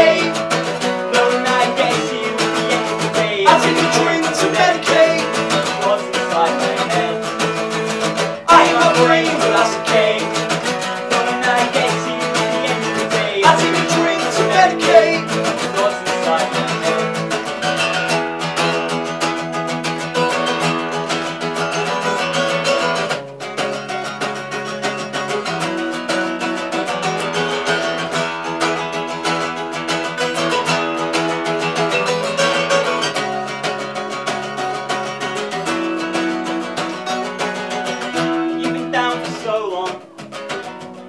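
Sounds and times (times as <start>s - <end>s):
acoustic guitars strumming: 0.0s - 41.0s.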